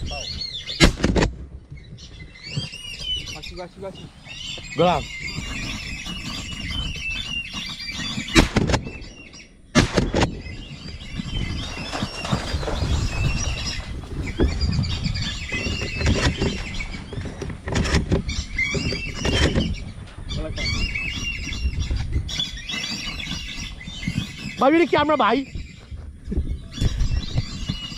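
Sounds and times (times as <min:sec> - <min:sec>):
ducks whistling: 0:01.8 - 0:17.3, 0:18.3 - 0:27.9.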